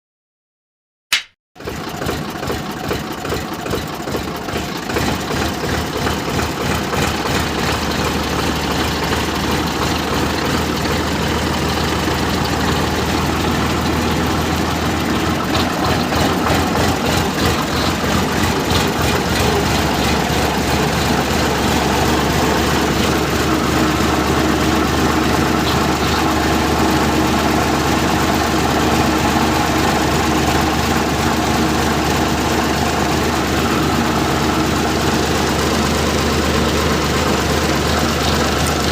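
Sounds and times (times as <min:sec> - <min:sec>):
tractor engine chugging: 0:01.1 - 0:38.9.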